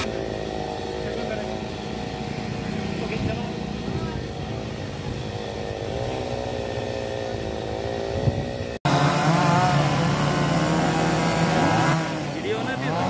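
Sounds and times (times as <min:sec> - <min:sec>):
chainsaw cutting wood: 0:00.0 - 0:02.6, 0:03.6 - 0:13.0
mixed engine noise: 0:00.0 - 0:13.0.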